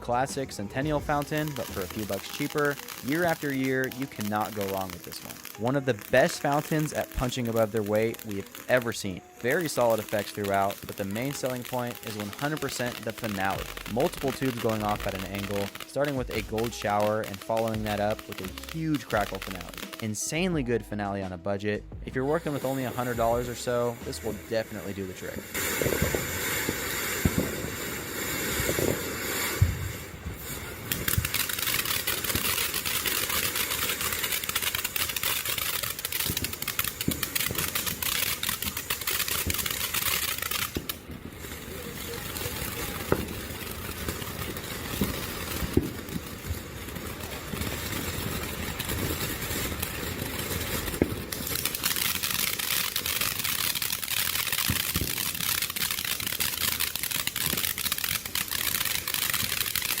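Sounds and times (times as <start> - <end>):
firework fountain hissing: 0.0 - 20.5, 22.2 - 60.0
firework pops and crackles: 0.0 - 60.0.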